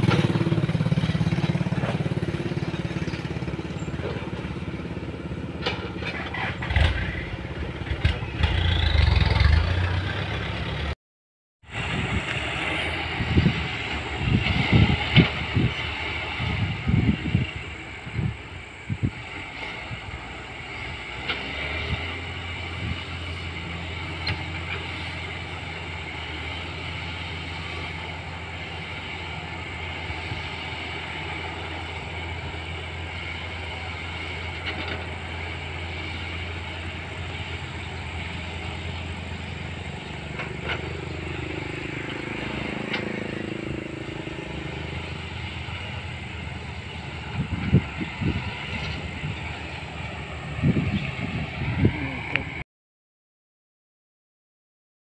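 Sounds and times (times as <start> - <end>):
heavy machinery diesel engines: 0.0 - 11.0, 11.6 - 52.6.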